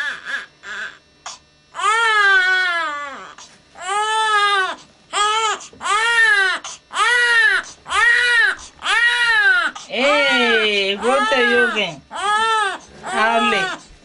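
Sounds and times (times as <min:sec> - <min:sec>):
infant crying: 0:00.0 - 0:13.9.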